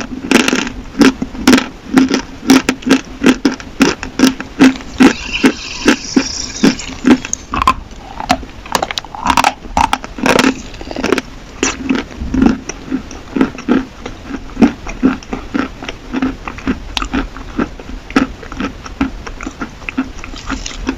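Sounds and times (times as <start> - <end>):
chewing chalk crunches: 0.0 - 6.9, 7.6 - 20.9.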